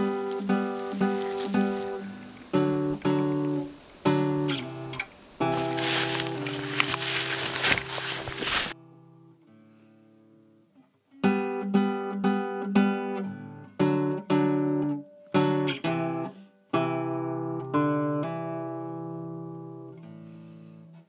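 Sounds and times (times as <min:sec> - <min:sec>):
acoustic guitar strummed chords: 0:00.0 - 0:07.7, 0:08.8 - 0:21.0.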